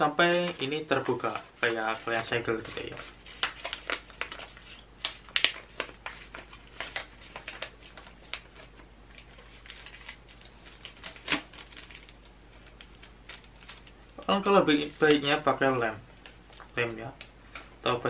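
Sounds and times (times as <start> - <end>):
paper rustling and crinkling: 0.0 - 17.3.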